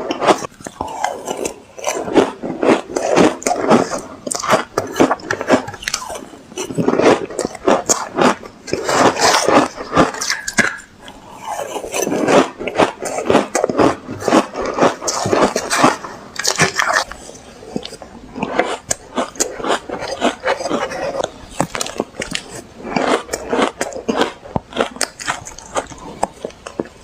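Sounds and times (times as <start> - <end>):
crunching and chewing ice: 0.0 - 27.0.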